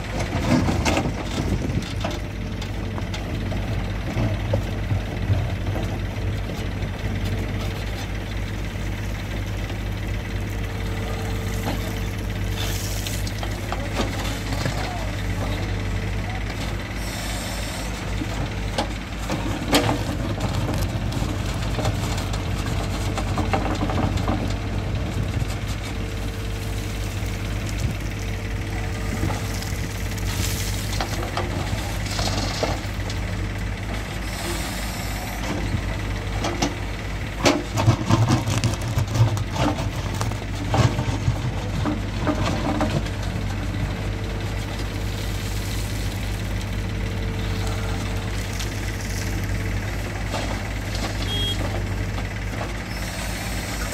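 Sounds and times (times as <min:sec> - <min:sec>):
diesel engines running: 0:00.0 - 0:53.9.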